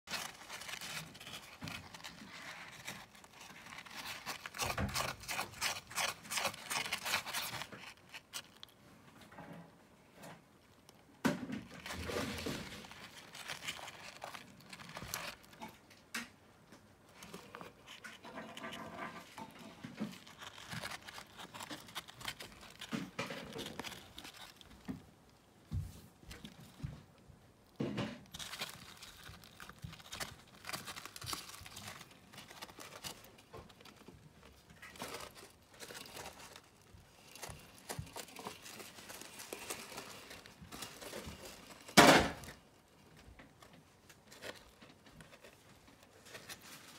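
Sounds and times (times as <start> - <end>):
hedgehogs scratching in litter: 0.0 - 8.8, 11.7 - 15.9, 17.1 - 25.1, 28.2 - 46.9.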